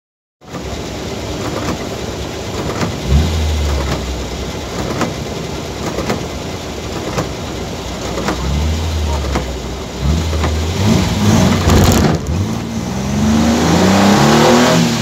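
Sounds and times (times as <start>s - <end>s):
windscreen wipers ticking: 0.5s - 12.7s
low engine drone: 0.5s - 15.0s.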